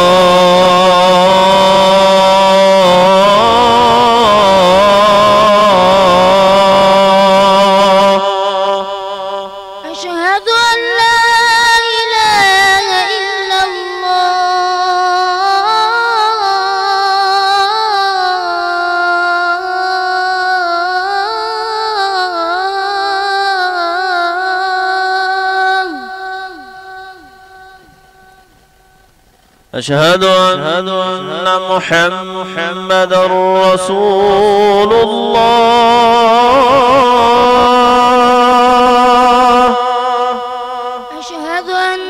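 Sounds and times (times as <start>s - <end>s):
man chanting call to prayer: 0.0s - 28.4s, 29.7s - 42.0s.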